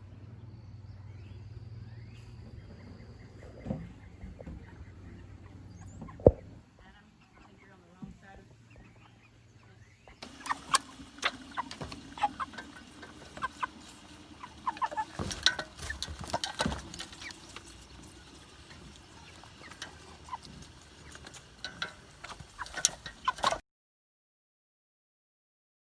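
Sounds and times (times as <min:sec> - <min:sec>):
chickens clucking: 0:02.4 - 0:23.6.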